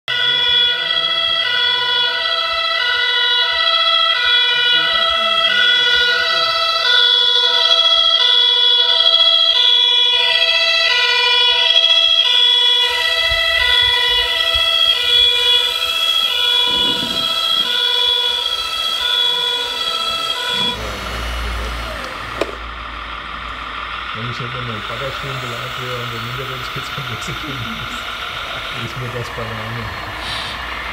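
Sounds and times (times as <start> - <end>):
two-tone police siren: 0.0 - 30.9
low engine-like rumble: 4.8 - 30.9.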